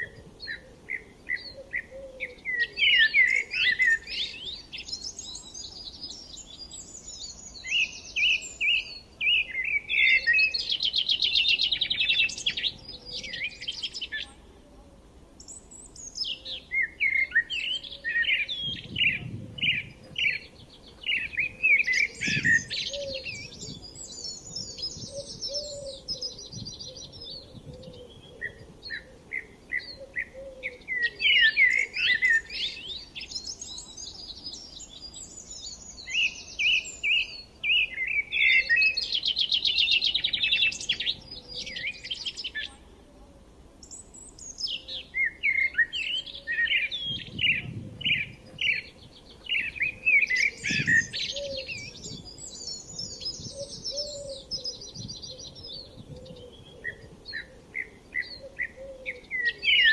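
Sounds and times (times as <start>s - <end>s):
birds chirping and trilling: 0.0s - 14.5s, 15.4s - 43.0s, 43.8s - 59.9s.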